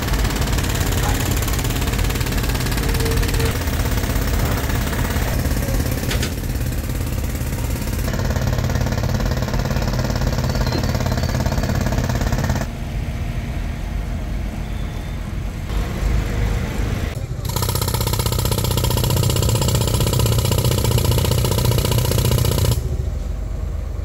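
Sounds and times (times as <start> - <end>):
diesel machinery chugging rumble: 0.0 - 24.0.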